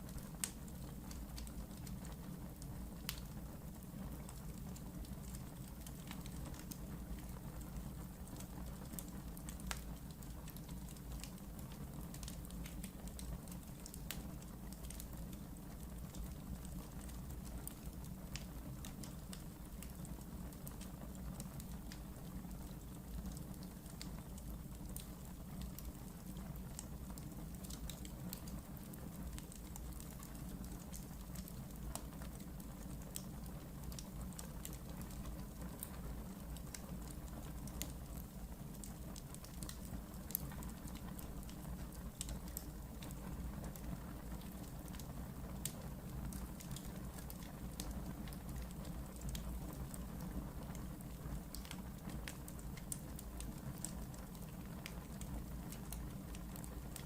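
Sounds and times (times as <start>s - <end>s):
crackles and pops of fire: 0.0s - 57.0s
fire burning in a fireplace: 0.0s - 57.0s.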